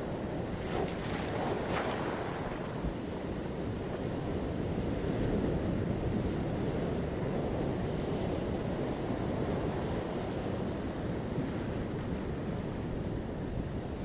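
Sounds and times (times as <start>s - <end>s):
ocean waves washing onto beach: 0.0s - 14.0s.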